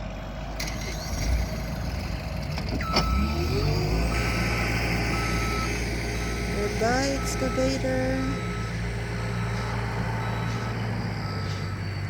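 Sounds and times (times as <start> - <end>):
diesel truck engine accelerating: 0.0 - 12.0.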